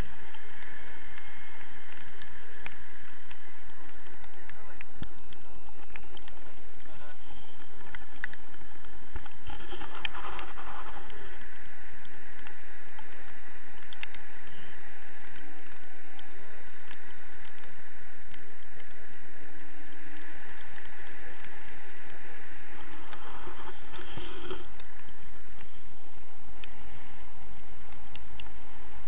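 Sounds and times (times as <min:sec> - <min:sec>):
crackles and clicks: 0:00.0 - 0:29.0.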